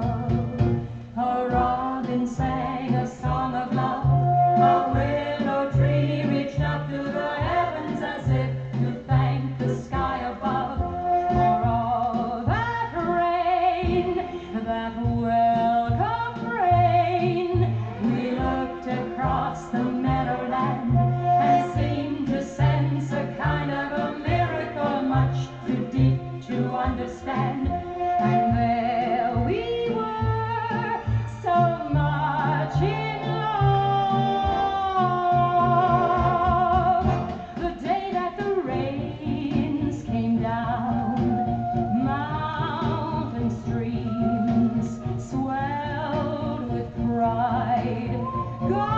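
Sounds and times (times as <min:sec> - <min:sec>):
singing with orchestral accompaniment: 0:00.0 - 0:48.9.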